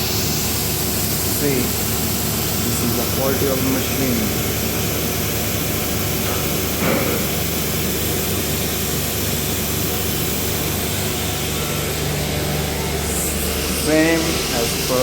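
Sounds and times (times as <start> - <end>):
cnc router machine drone: 0.0 - 15.0.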